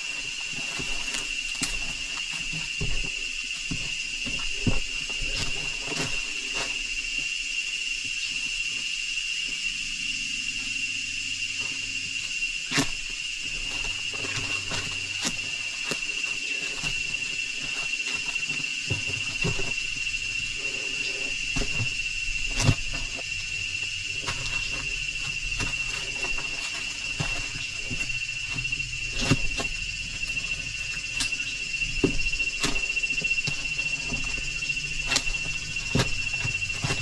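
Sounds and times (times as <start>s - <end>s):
insect drone: 0.0s - 37.0s.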